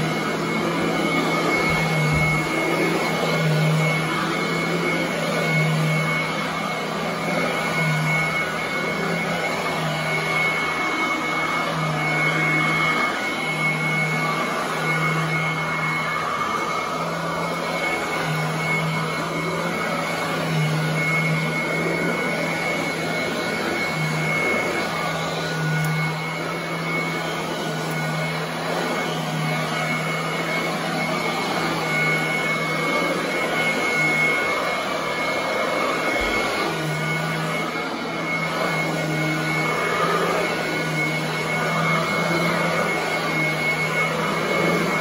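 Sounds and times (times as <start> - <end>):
upright vacuum running: 0.0 - 45.0
vacuum motor whine: 0.0 - 45.0.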